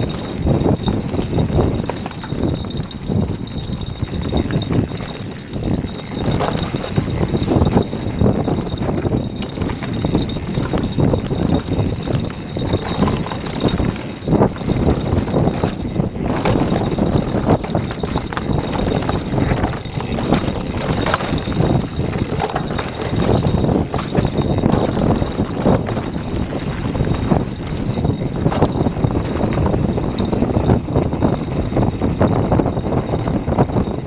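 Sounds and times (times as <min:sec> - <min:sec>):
bike rattling and knocking: 0:00.0 - 0:34.0
bike tyres on dirt: 0:00.0 - 0:34.0.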